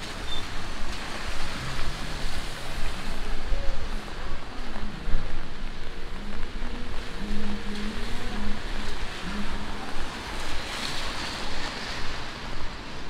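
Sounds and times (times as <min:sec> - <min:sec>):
rain hiss: 0:00.0 - 0:13.0
traffic on wet pavement: 0:00.0 - 0:13.0.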